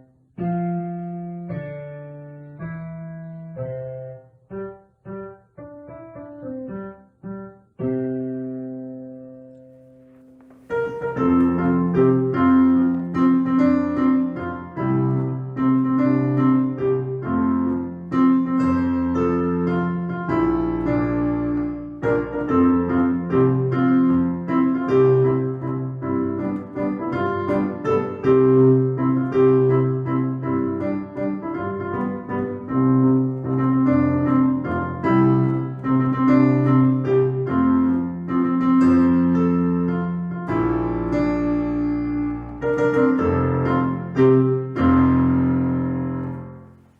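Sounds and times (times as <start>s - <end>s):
piano music: 0.0s - 46.9s.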